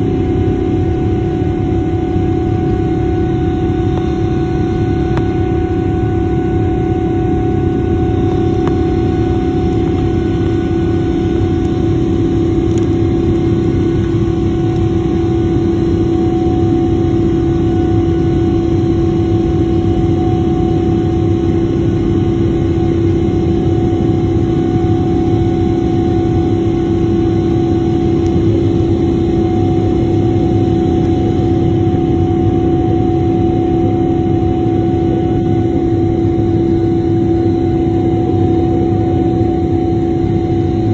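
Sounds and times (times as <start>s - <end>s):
constant droning tone: 0.0s - 40.9s
jet engine cabin roar: 0.0s - 40.9s.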